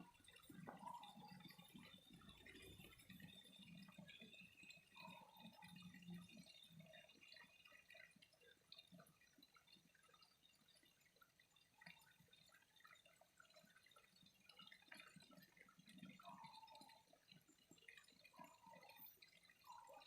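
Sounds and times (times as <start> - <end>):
faint trickling water: 0.0 - 20.0
low water gurgles: 0.0 - 20.0
water drips and plinks: 0.0 - 20.0.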